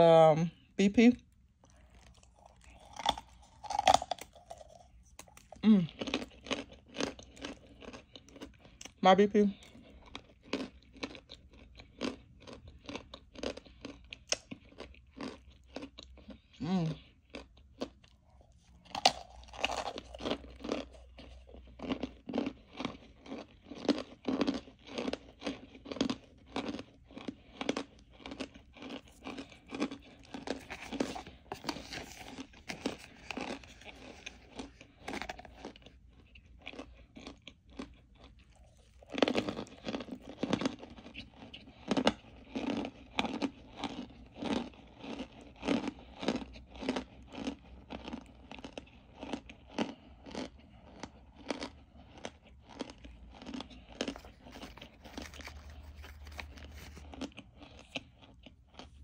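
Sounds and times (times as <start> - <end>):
crunchy chewing: 1.6 - 59.0.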